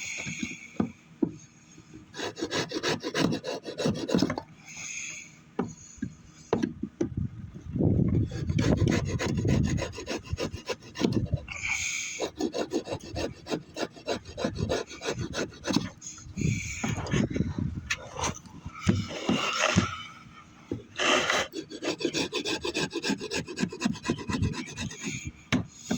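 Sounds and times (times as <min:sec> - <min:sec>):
rasp scraping wood: 0:00.0 - 0:04.5, 0:08.1 - 0:25.9.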